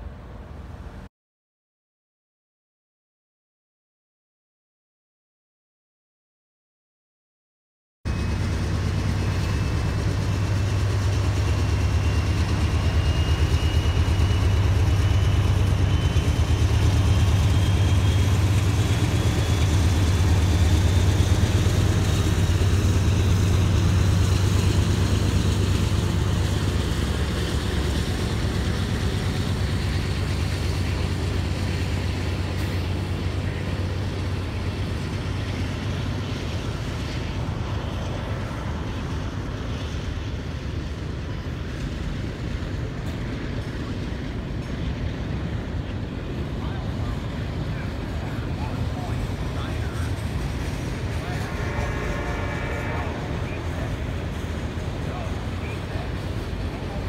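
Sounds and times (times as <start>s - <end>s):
diesel locomotive engines rumbling: 0.0s - 1.1s, 8.1s - 57.0s
train cars rolling: 8.1s - 57.0s.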